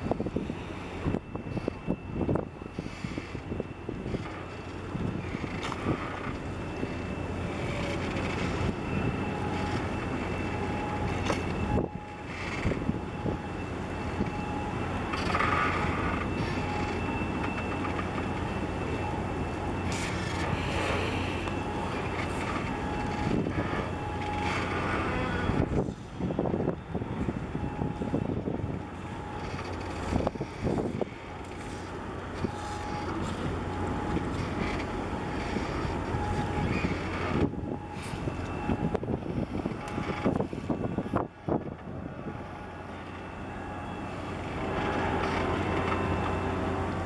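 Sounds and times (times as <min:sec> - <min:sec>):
ship engine drone: 0:00.0 - 0:47.0.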